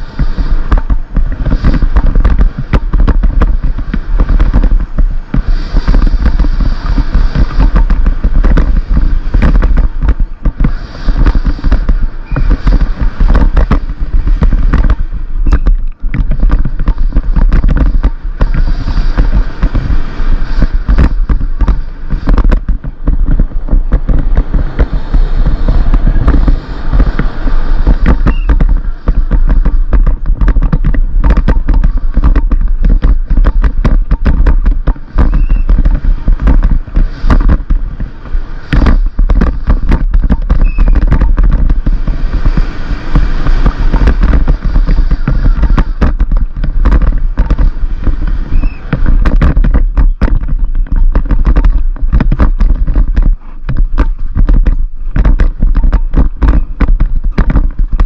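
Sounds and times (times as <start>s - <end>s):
bike clattering over gravel: 0.0s - 58.0s
wind rumble on microphone: 0.0s - 58.0s.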